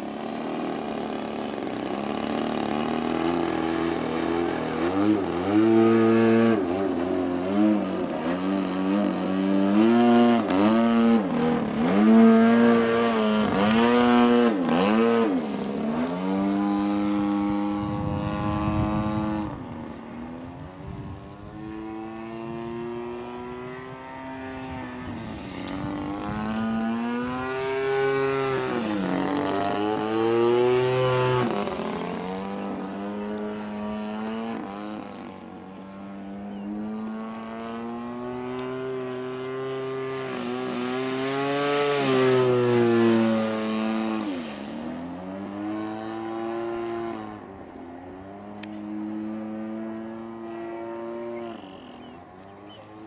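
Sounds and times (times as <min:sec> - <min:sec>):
model airplane engine buzzing: 0:00.0 - 0:53.0.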